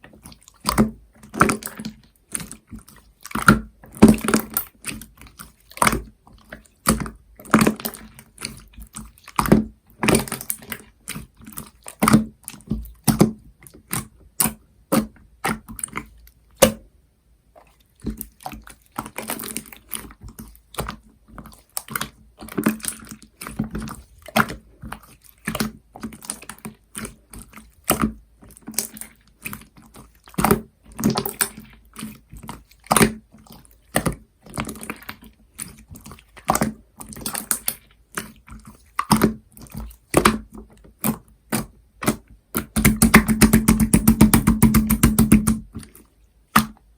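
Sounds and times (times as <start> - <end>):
slime squishing wet clicks: 0.1 - 16.8, 17.6 - 46.9.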